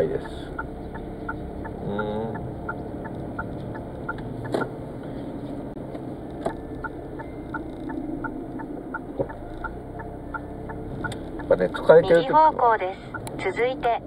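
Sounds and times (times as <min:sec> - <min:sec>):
car engine and road noise: 0:00.0 - 0:14.0
turn signal ticking: 0:00.0 - 0:14.0.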